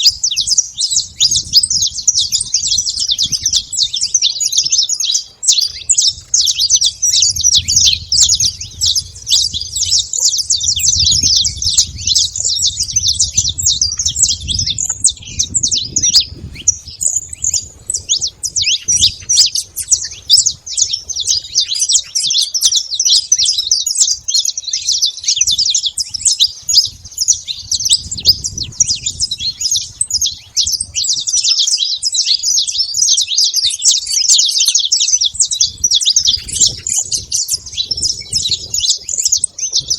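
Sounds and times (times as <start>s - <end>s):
finch chirping song: 0.0s - 39.9s.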